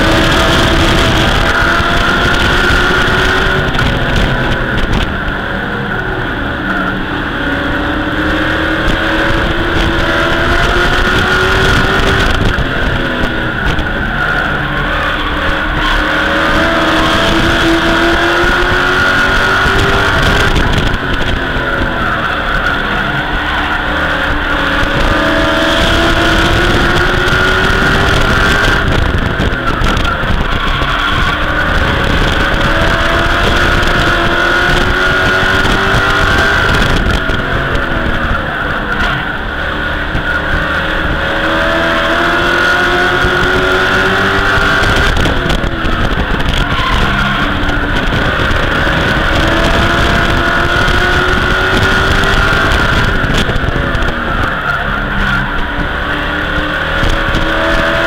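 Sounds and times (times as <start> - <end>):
race truck engine revving: 0.0 - 58.0
wind and road noise: 0.0 - 58.0.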